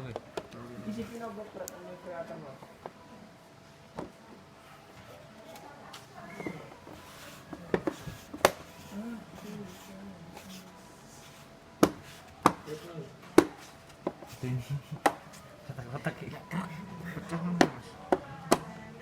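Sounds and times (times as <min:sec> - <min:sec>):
faint low voices: 0:00.0 - 0:19.0.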